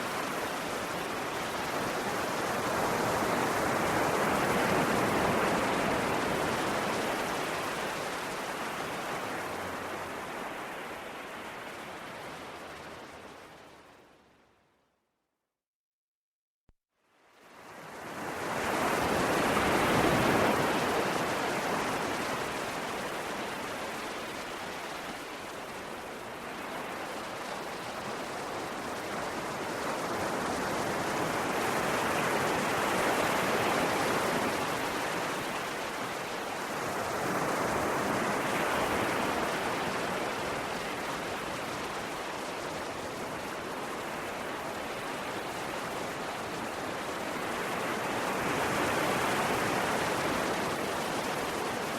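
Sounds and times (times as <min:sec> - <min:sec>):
sea waves rolling in: 0:00.0 - 0:14.3, 0:17.2 - 0:51.9.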